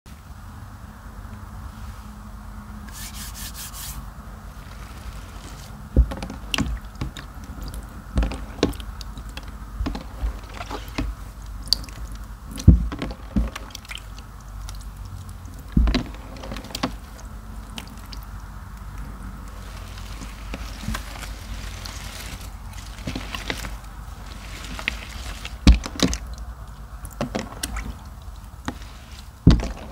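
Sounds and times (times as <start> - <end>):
water sloshing: 2.9 - 29.9
wet squelches and splashes: 2.9 - 29.9.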